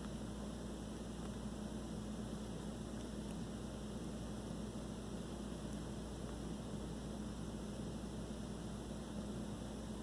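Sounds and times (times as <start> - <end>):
low electrical hum: 0.0 - 10.0
steady hiss: 0.0 - 10.0.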